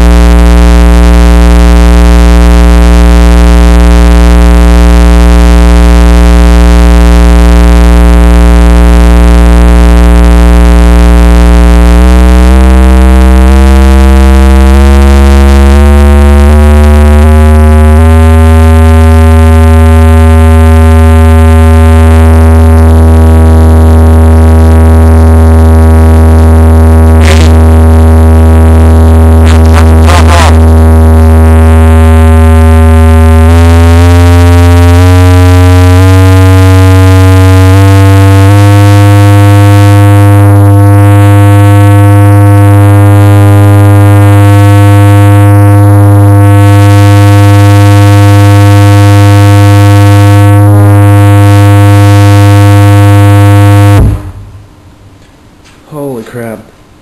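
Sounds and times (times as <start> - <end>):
distorted subwoofer test tones: 0.0 - 57.0.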